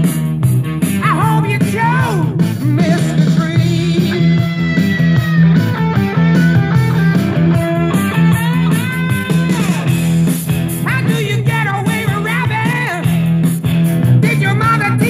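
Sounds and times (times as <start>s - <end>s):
rock music over loudspeakers: 0.0s - 15.0s.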